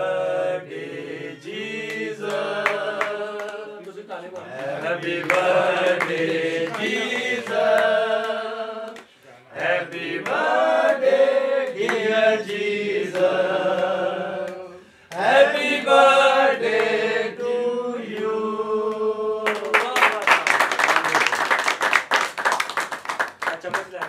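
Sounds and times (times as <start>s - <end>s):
group singing: 0.0s - 19.8s.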